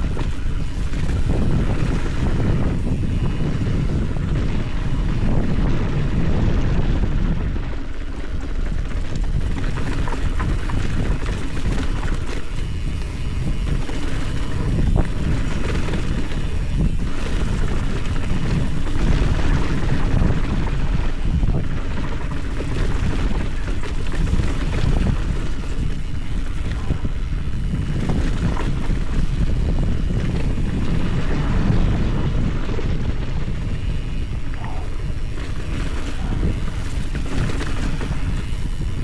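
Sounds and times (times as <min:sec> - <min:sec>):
bike clicking over bumps: 0:00.0 - 0:39.0
tyres rolling on gravel: 0:00.0 - 0:39.0
wind over microphone: 0:00.0 - 0:39.0.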